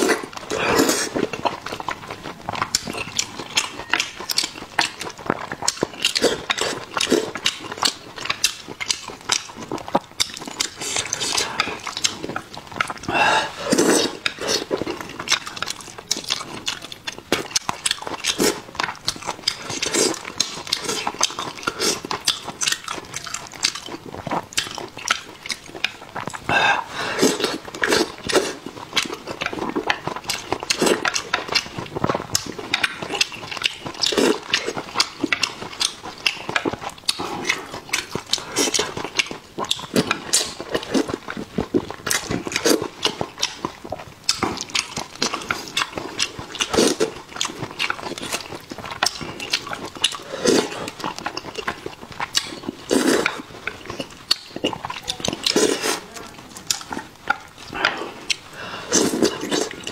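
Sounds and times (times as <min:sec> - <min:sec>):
wet chewing and slurping: 0:00.0 - 0:59.9.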